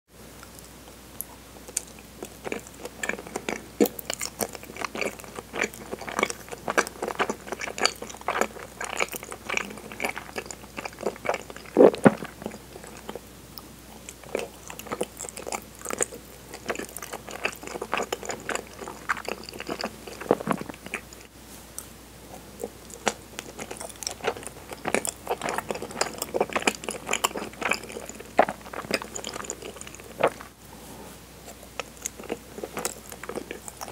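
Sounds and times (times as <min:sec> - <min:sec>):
chewing sticky food: 0:00.4 - 0:30.6, 0:31.4 - 0:33.9.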